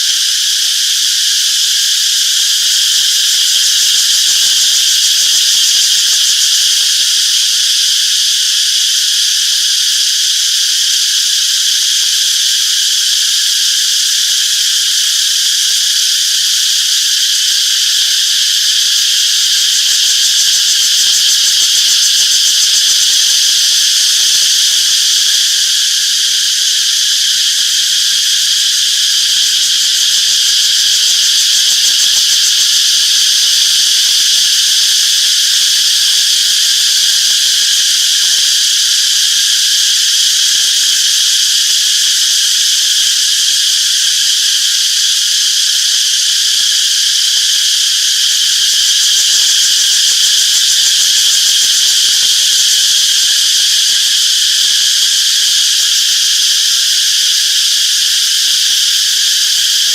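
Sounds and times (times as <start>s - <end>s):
cicadas buzzing: 0.0s - 59.9s.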